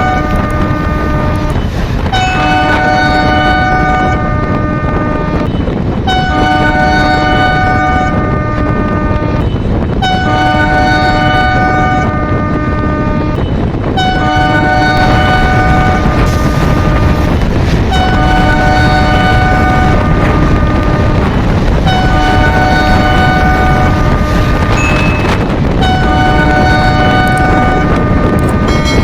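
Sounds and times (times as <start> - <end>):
locomotive horn blasts: 0.0 - 29.0
train rumbling at speed: 0.0 - 29.0.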